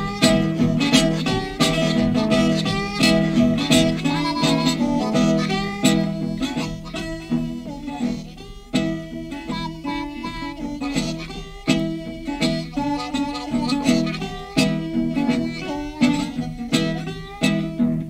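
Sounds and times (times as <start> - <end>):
acoustic slide guitar riff: 0.0 - 18.0
harmonica: 0.0 - 18.0.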